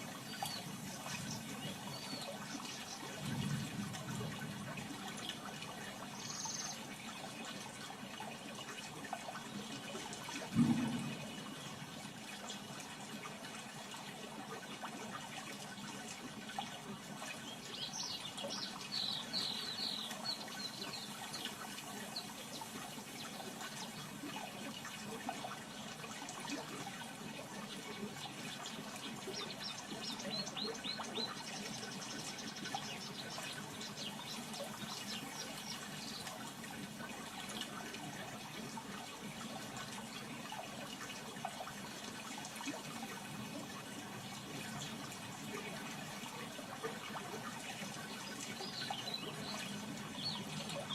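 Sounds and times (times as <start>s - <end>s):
running water: 0.0s - 50.9s.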